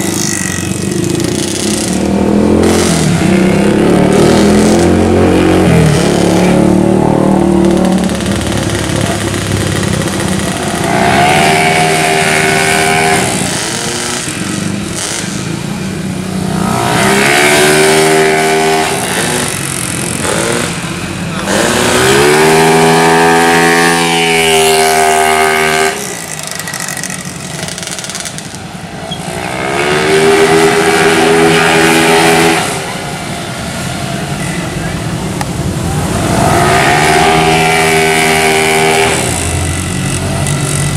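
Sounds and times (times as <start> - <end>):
scooters accelerating hard: 0.0 - 40.9.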